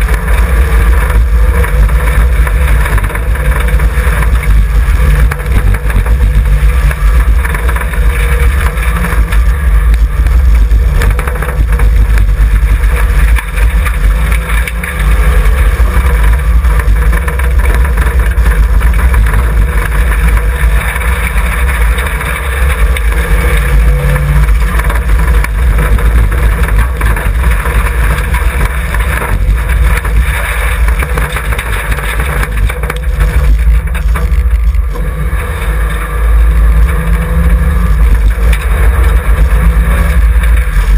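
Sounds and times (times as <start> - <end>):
car engine under load: 0.0 - 40.9.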